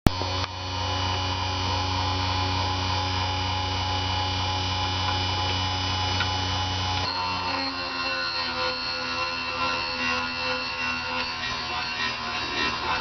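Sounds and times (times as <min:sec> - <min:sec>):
grinder motor humming and whining: 0:00.1 - 0:13.0.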